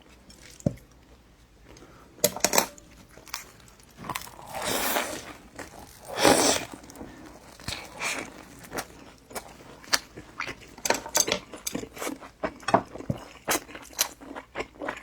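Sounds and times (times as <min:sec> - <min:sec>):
crunchy chewing of fried dough: 0:00.0 - 0:15.0.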